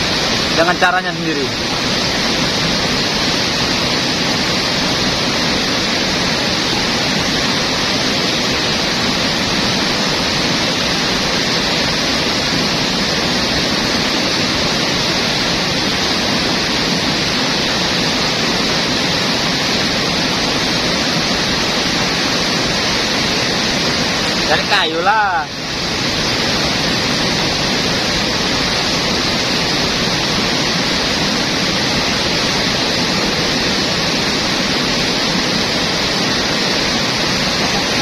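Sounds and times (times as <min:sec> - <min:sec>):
river rapids rushing: 0:00.0 - 0:38.0.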